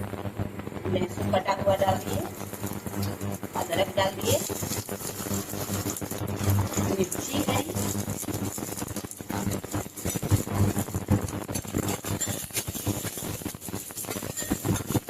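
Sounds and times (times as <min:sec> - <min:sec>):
food frying in oil: 0:00.0 - 0:15.0
stirring clicks and taps: 0:02.2 - 0:15.0.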